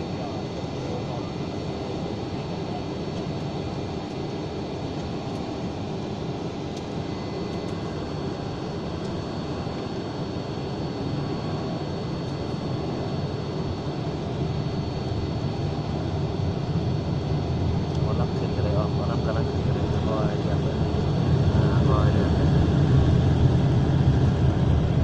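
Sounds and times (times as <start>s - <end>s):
jet engines rumbling in cabin: 0.0s - 25.0s.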